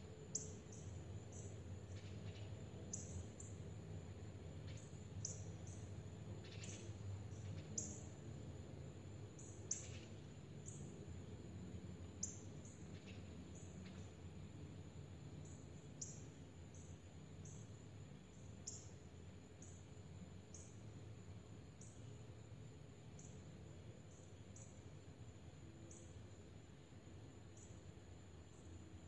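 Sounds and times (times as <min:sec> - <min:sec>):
small songbird chirping: 0:00.0 - 0:29.0.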